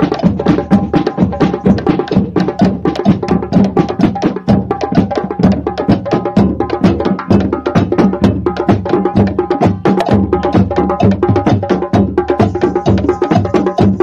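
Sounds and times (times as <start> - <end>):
drummers beating drums: 0.0 - 14.0.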